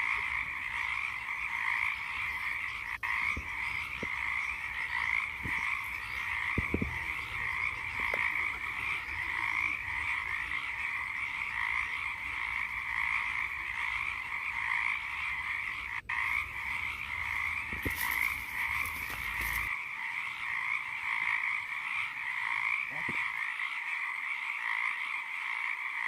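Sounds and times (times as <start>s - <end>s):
chorus of frogs calling: 0.0s - 26.0s.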